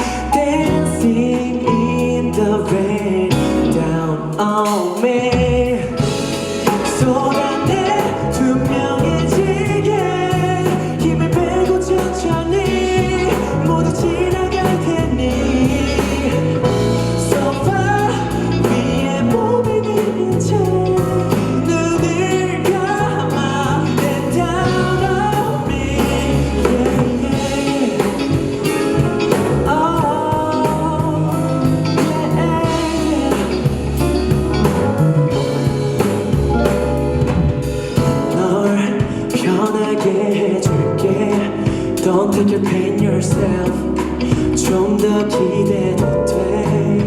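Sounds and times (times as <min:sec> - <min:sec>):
bass and drum beat: 0:00.0 - 0:47.0
pop song with sung vocals: 0:00.0 - 0:47.0.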